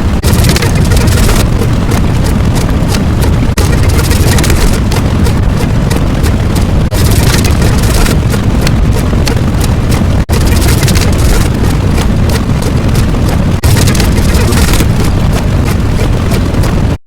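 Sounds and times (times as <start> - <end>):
loud low rumbling: 0.0 - 17.0.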